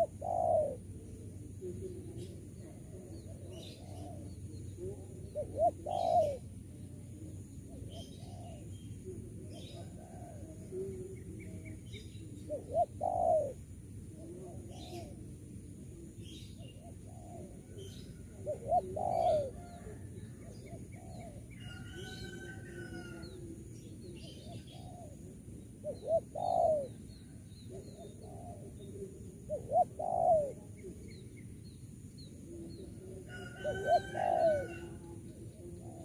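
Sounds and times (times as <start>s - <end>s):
dove cooing: 0.0s - 31.3s, 32.3s - 36.0s.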